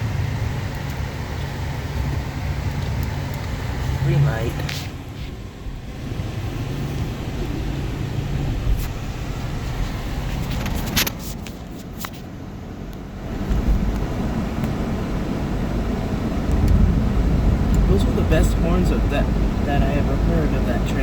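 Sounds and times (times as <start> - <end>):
diesel locomotives rumbling: 0.0 - 21.0.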